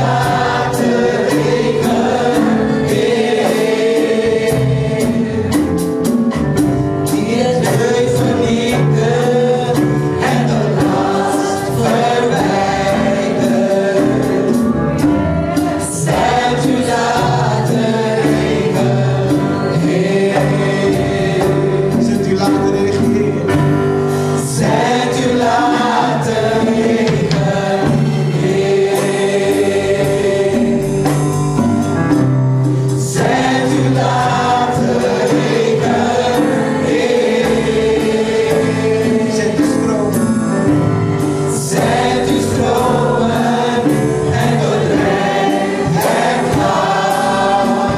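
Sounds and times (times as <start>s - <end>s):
choir singing worship song: 0.0s - 47.9s
instrumental backing: 0.0s - 47.9s.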